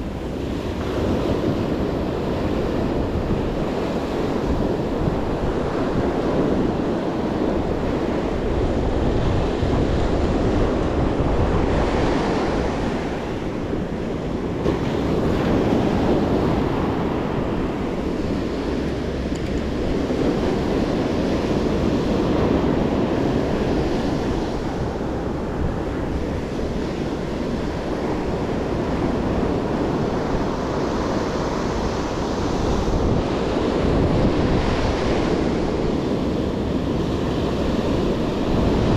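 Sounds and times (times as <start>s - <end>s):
ocean surf breaking on beach: 0.0s - 38.9s
wind buffeting microphone: 0.0s - 38.9s.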